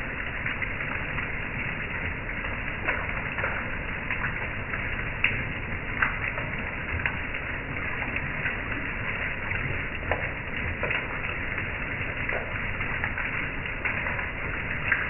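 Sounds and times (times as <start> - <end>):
heavy rain on a wooden deck: 0.0 - 15.0
raindrops ticking: 0.0 - 15.0.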